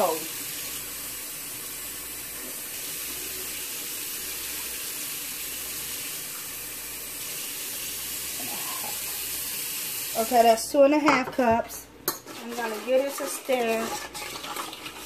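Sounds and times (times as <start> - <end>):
water pouring into a pot: 0.0 - 10.4, 13.0 - 15.0.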